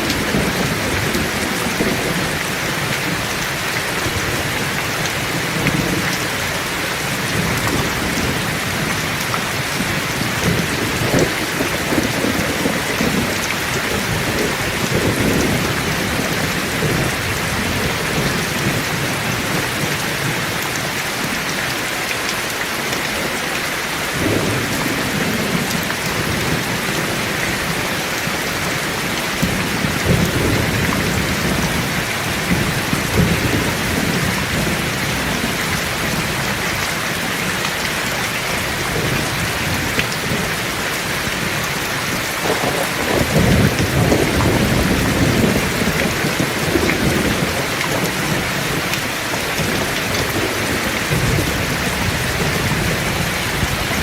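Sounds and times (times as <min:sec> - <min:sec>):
thunder rumbling: 0:00.0 - 0:06.4, 0:07.0 - 0:20.4, 0:24.2 - 0:40.6, 0:41.2 - 0:54.0
heavy rain pouring: 0:00.0 - 0:54.0.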